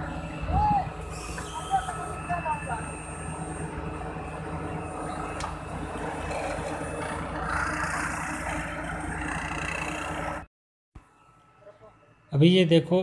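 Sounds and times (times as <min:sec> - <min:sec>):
diesel engine running: 0:00.0 - 0:10.5.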